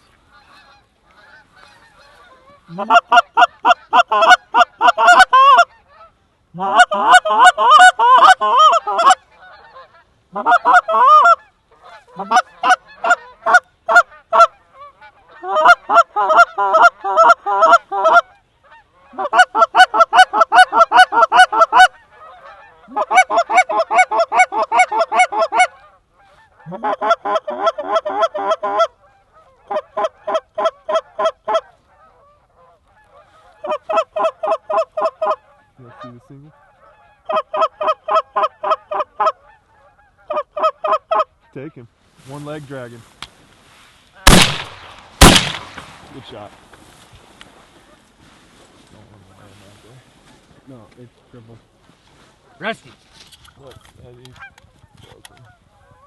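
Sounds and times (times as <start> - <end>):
goose call honks and clucks: 0.0 - 41.9, 52.4 - 56.0.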